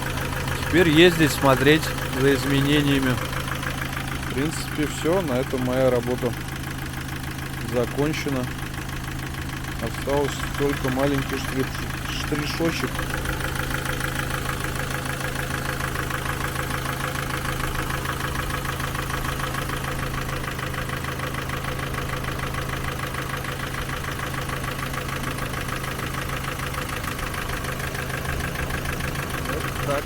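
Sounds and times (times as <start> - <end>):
car engine idling with valve clatter: 0.0 - 30.0.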